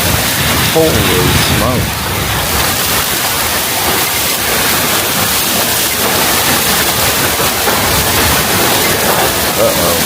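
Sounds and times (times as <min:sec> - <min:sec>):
heavy rain downpour: 0:00.0 - 0:10.0.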